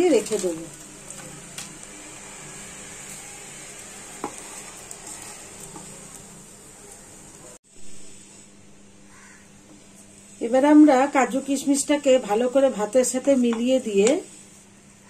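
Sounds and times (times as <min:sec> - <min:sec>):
rice sizzling in pan: 0:00.0 - 0:14.6.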